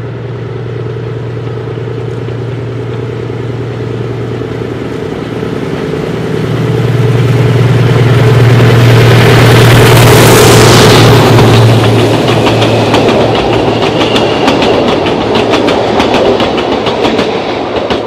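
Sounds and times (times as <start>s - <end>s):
diesel locomotive engine hum: 0.0s - 18.0s
rattle of passing train: 0.0s - 18.0s.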